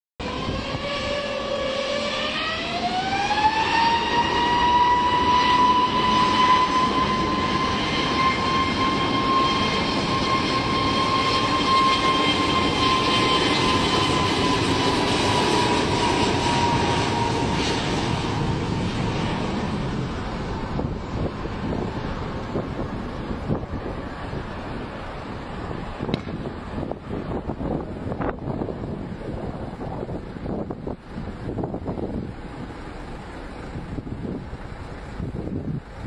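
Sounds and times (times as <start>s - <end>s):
jet engine whine: 0.2s - 36.0s
jet noise rush: 0.2s - 36.0s.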